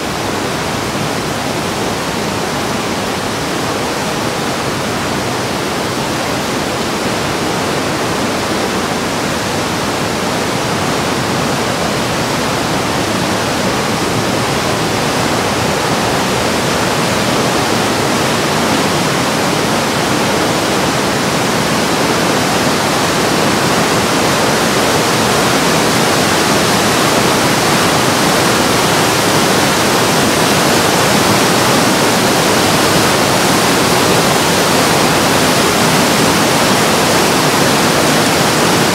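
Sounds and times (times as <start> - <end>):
white water rushing: 0.0 - 38.9.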